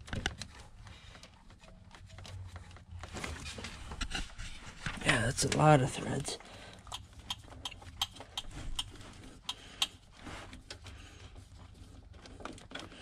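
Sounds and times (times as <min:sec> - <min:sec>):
faint clicks and knocks: 0:00.0 - 0:13.0.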